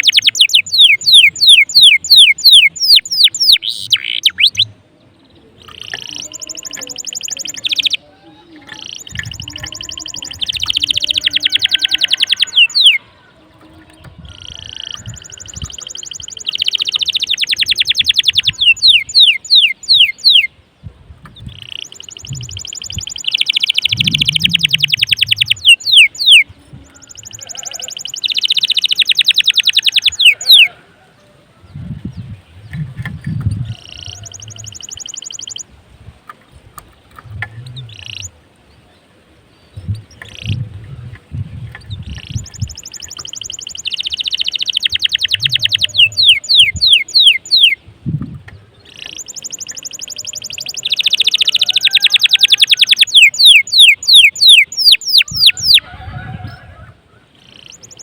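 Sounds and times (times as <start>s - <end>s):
canary singing rapid trills: 0.0s - 4.7s, 5.6s - 13.1s, 13.7s - 20.5s, 21.5s - 30.8s, 32.0s - 35.7s, 37.6s - 38.4s, 39.8s - 47.8s, 48.8s - 55.8s, 57.4s - 58.0s.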